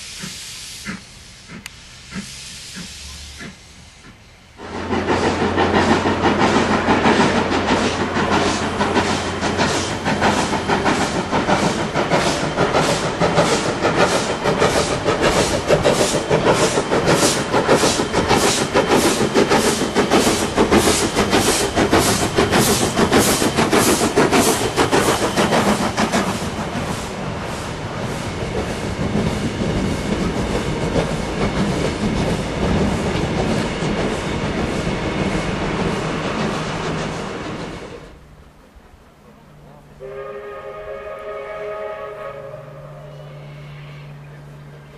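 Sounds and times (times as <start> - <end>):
steam locomotive exhaust beats: 0.0 - 44.9.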